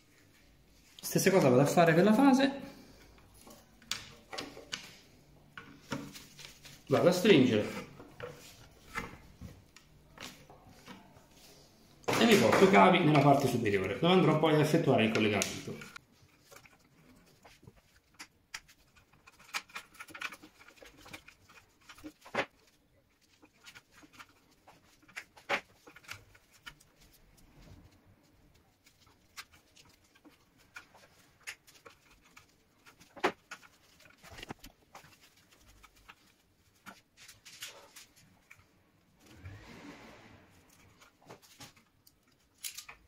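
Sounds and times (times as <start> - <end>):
rustling of cable: 0.0 - 43.0.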